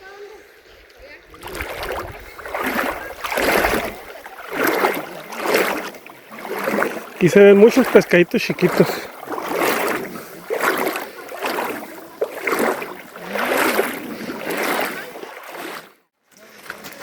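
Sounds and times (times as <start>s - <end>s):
river water sloshing: 1.0s - 17.0s.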